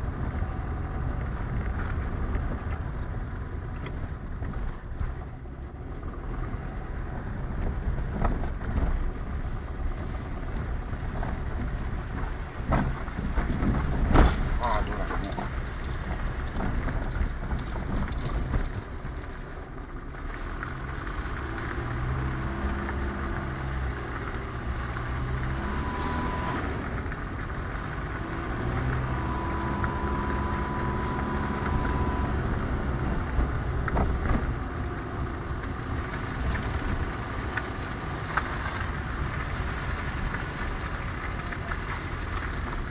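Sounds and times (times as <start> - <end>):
car engine hum: 0.0 - 42.9
small knocks from bumpy road: 1.0 - 25.7, 26.7 - 42.9.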